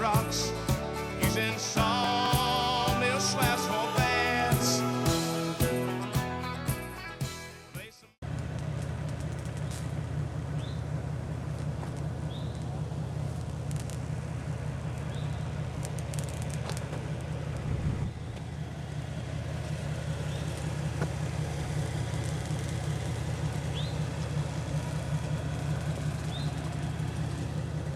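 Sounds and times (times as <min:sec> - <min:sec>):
car engine running: 0:00.0 - 0:07.6, 0:08.2 - 0:27.9.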